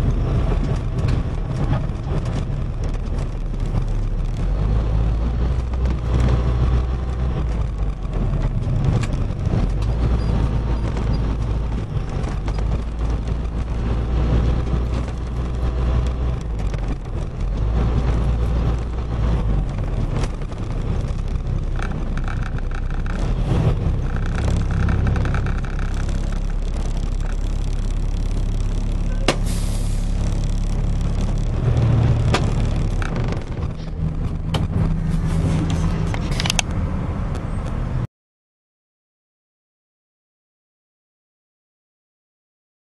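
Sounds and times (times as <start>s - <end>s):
truck engine running: 0.0s - 36.9s
road noise: 0.0s - 38.1s.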